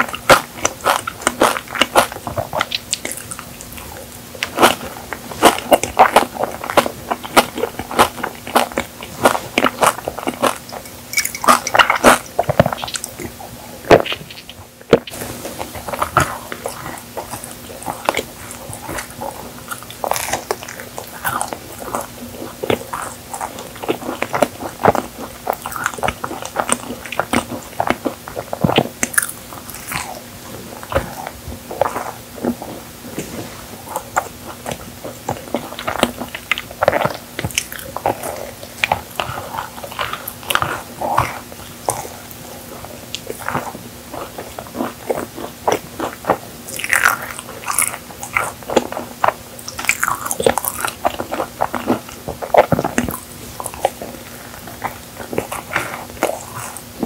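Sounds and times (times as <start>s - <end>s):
crunchy bites: 0.0s - 57.0s
person chewing: 0.0s - 57.0s.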